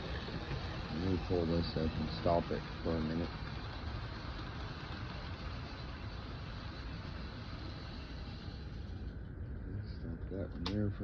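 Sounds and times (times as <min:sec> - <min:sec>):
model train rumbling on rails: 0:00.0 - 0:11.0.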